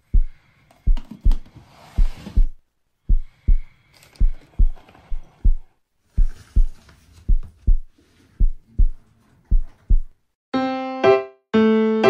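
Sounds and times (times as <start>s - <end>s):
heartbeat thumps: 0.0s - 10.2s.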